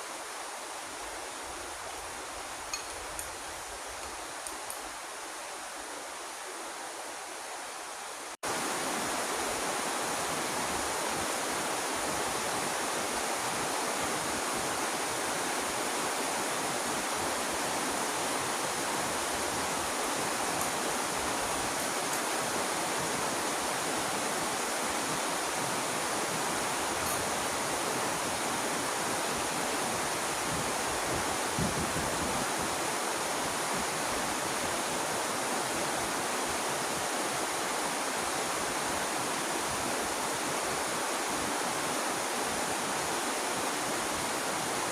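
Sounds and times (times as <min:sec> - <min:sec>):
heavy rain falling: 0:07.7 - 0:44.9.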